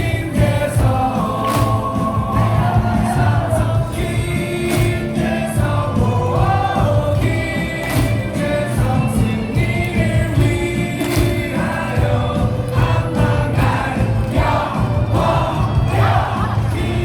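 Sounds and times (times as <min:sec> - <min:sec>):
crowd singing in unison: 0:00.0 - 0:17.0
stadium music with steady beat: 0:00.0 - 0:17.0.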